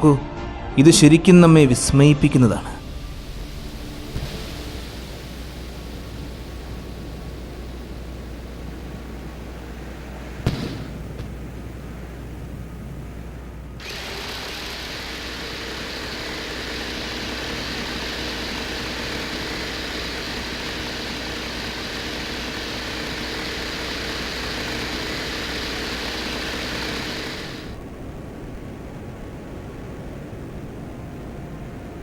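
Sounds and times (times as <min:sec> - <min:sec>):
low hum: 0:02.6 - 0:32.0
steady hiss: 0:02.6 - 0:32.0.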